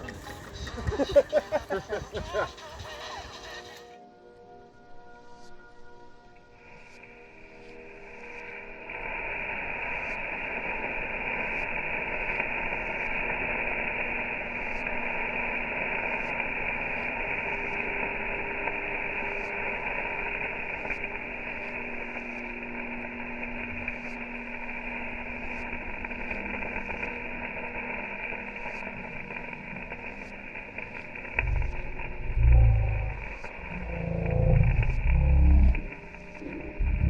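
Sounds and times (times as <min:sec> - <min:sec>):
food sizzling in a pan: 0:06.5 - 0:36.8
sharp crackles: 0:06.6 - 0:37.0.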